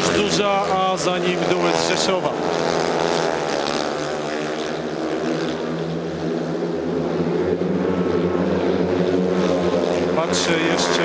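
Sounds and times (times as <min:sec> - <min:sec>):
motorcycles racing: 0:00.0 - 0:11.0.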